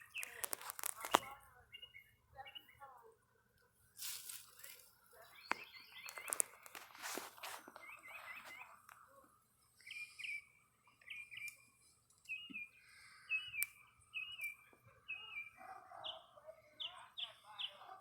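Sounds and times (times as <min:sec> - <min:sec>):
bird chirping: 0:00.0 - 0:03.0, 0:04.5 - 0:18.0.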